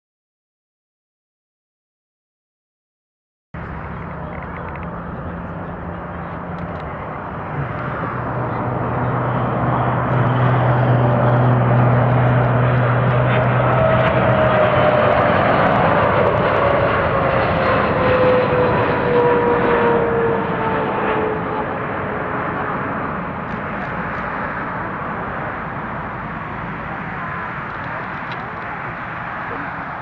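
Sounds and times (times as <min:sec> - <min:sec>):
jet engines passing: 0:03.6 - 0:30.0.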